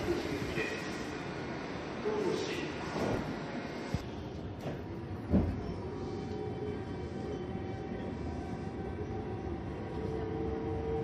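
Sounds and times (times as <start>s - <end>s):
subway train running rumble: 0.0s - 11.0s.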